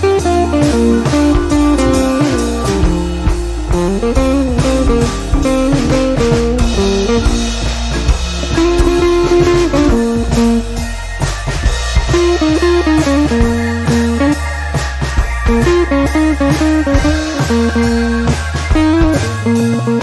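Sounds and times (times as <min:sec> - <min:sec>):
bass: 0:00.0 - 0:20.0
blues electric guitar: 0:00.0 - 0:20.0
drum kit beat: 0:00.0 - 0:20.0.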